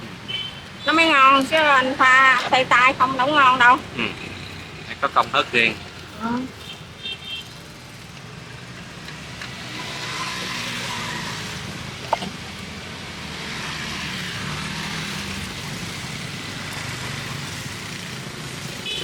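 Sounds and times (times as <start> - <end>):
motorbike engines passing: 0.0 - 19.0
street traffic: 0.0 - 19.0.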